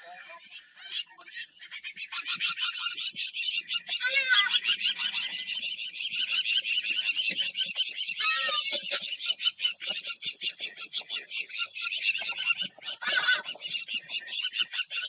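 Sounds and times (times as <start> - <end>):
rapid high bird chirps: 0.4 - 15.0.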